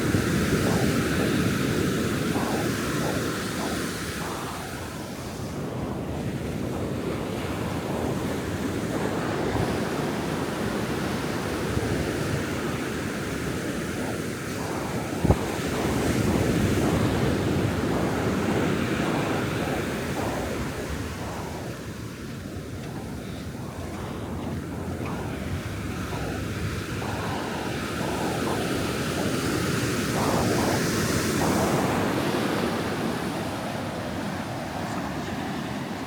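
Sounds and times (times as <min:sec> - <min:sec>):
ocean surf breaking on shore: 0:00.0 - 0:36.0
wind buffeting microphone: 0:00.0 - 0:36.0.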